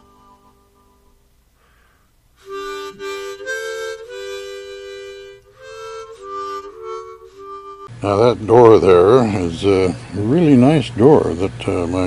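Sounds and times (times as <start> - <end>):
harmonica chords: 0.0 - 12.0.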